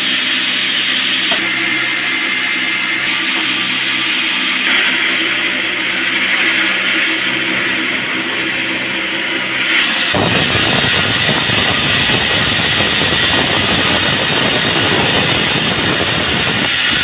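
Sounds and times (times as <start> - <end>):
low machine hum: 0.0 - 17.0
saw blade hissing: 0.0 - 17.0.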